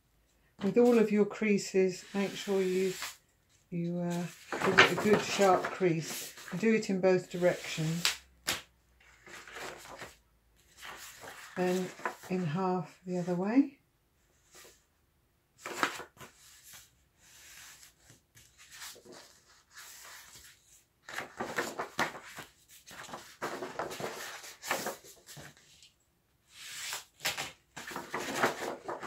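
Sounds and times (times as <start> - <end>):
paper being folded and creased: 2.0 - 12.6, 15.6 - 25.9, 26.5 - 29.0.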